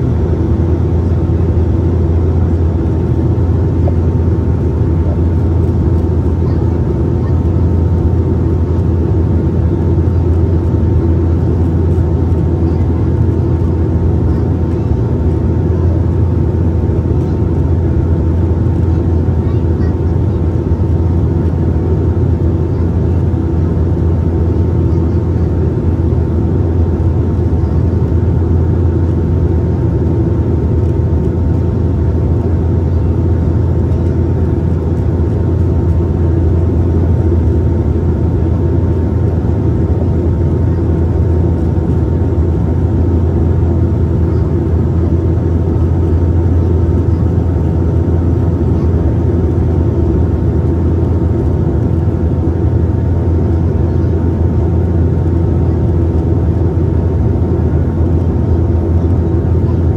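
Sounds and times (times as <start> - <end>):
turboprop engine drone: 0.0 - 59.9.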